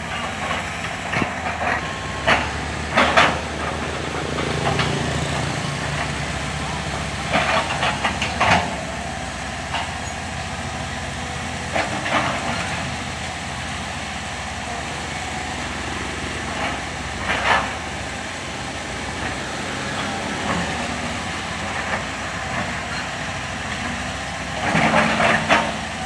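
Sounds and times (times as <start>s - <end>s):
excavator diesel engine running: 0.0s - 26.0s
excavator working noises: 0.0s - 26.0s.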